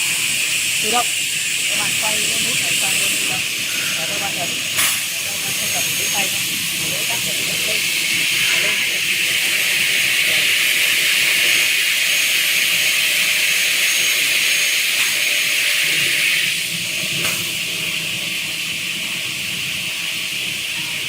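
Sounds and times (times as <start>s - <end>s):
cutting saw hissing: 0.0s - 17.5s.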